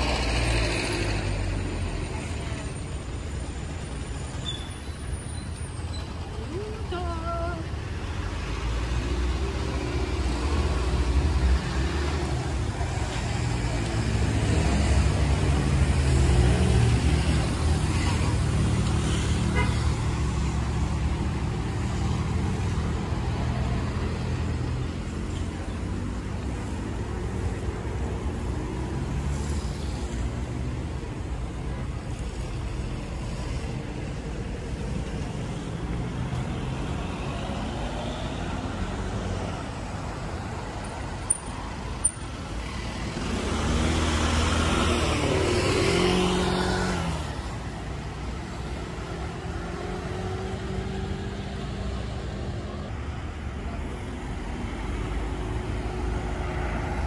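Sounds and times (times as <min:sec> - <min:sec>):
car traffic rumble: 0:00.0 - 0:57.0.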